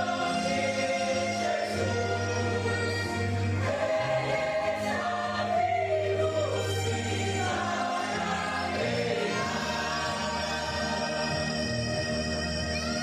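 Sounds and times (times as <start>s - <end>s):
choir singing a hymn: 0.0s - 12.8s.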